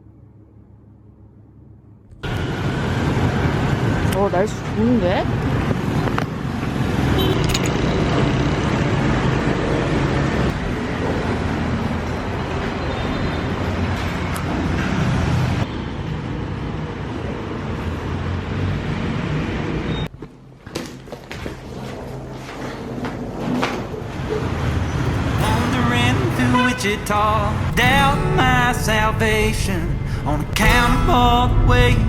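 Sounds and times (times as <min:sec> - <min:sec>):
road traffic passing: 0:00.0 - 0:20.6, 0:21.2 - 0:32.0.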